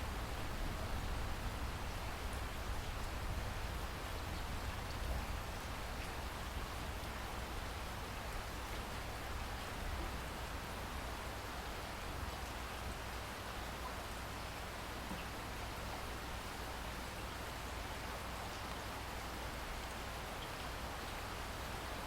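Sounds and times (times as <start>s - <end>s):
rain on foliage: 0.0s - 22.0s.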